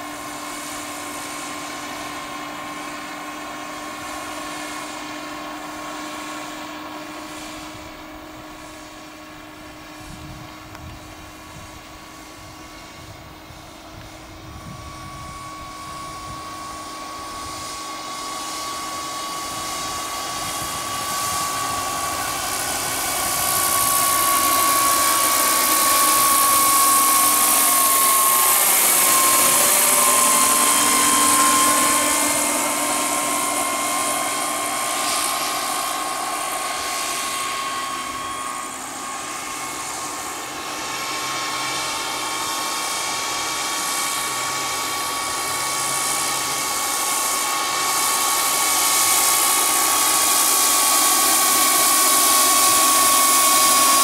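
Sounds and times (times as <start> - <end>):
helicopter rotor noise: 0.0 - 54.0
model helicopter turbine whine: 0.0 - 54.0.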